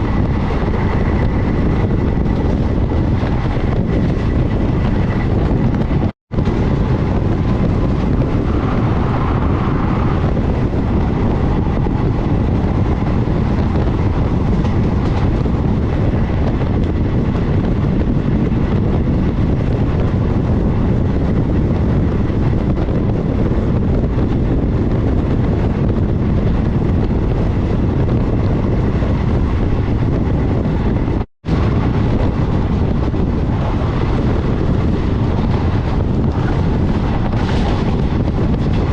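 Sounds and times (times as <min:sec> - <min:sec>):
train rumbling at speed: 0:00.0 - 0:38.9
wind buffeting microphone: 0:00.0 - 0:38.9.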